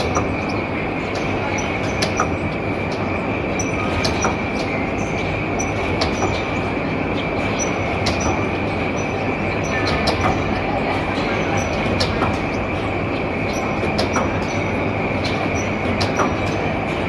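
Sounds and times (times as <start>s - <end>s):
printing press clattering: 0.0s - 17.0s.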